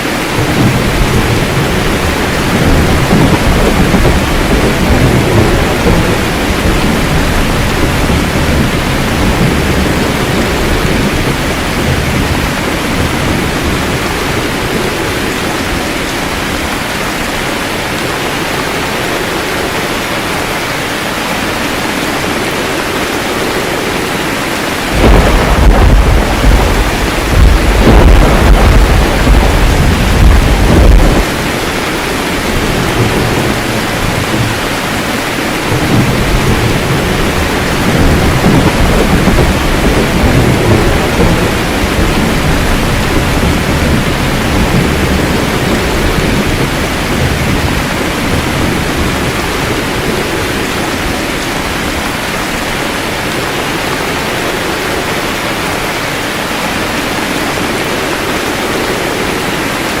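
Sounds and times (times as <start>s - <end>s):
low rolling thunder: 0.0s - 20.4s, 21.9s - 55.2s
heavy rain falling: 0.0s - 60.0s.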